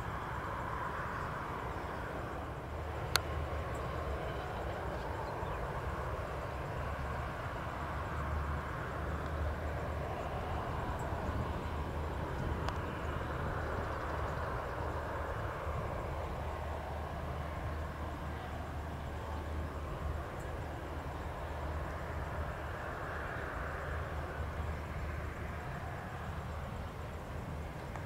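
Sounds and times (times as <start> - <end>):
distant jet engines rumbling: 0.0 - 28.0.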